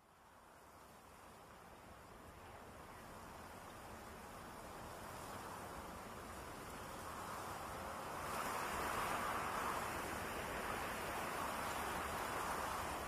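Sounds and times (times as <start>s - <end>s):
wind blowing through grass: 0.0s - 13.0s.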